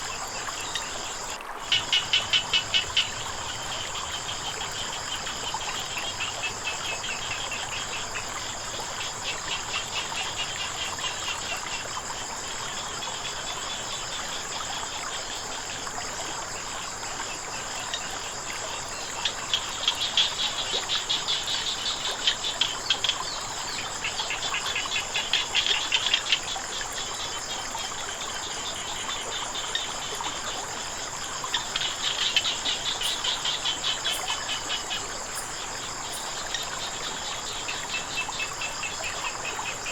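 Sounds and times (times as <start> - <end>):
flowing water: 0.0 - 39.9
frogs calling: 0.0 - 39.9
insects trilling: 0.0 - 39.9.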